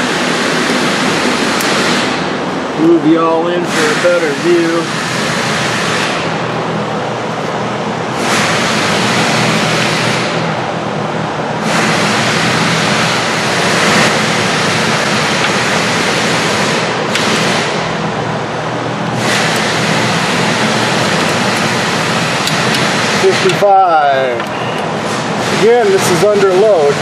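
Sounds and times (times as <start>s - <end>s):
loud steady rushing noise: 0.0s - 27.0s.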